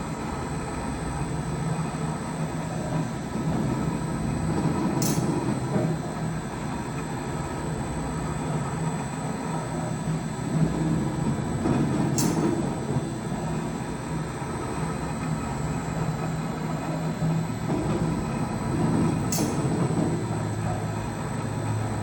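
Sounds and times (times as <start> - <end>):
machine hum and rumble: 0.0 - 22.0.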